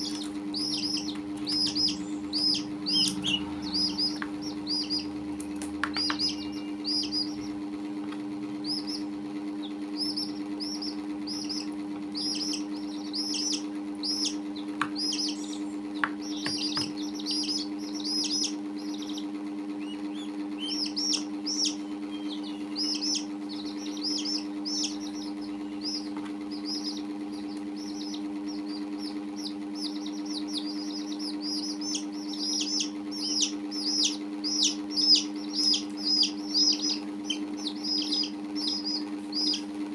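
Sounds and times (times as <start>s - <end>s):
chicks peeping: 0.0s - 39.9s
low hum: 0.0s - 39.9s.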